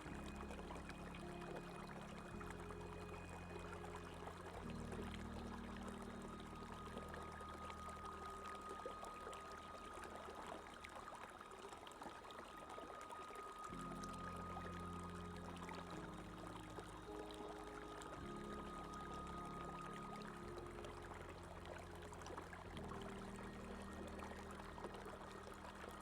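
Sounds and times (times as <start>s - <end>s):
soft music chords: 0.0s - 26.0s.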